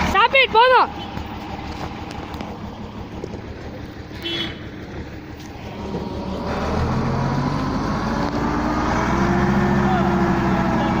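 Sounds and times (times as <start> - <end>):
lorry engine revving: 0.0 - 11.0.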